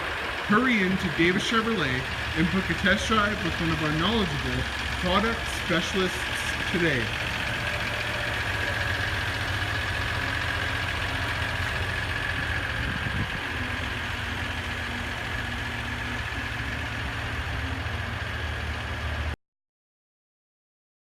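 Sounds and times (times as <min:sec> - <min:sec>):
diesel engine idling: 0:00.0 - 0:19.4
high engine whine: 0:00.0 - 0:19.4.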